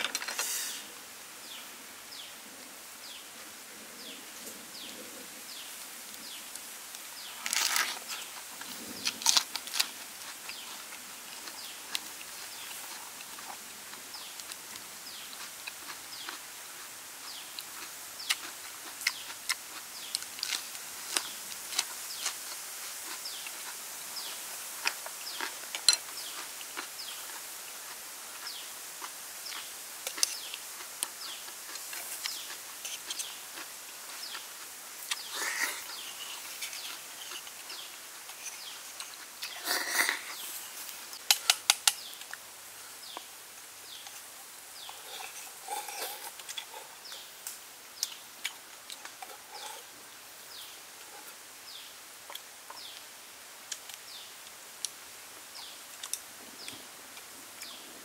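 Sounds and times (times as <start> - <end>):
steady outdoor hiss: 0.0 - 58.0.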